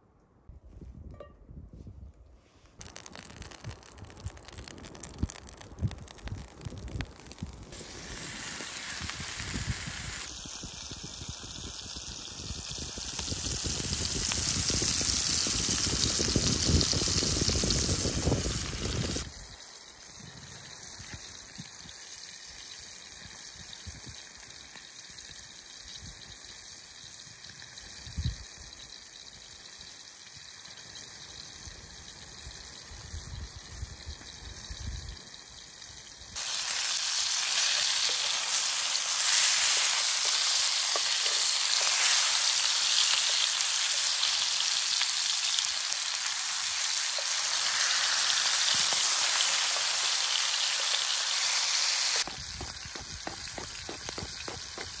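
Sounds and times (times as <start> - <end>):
pork sizzling in skillet: 2.8 - 55.0.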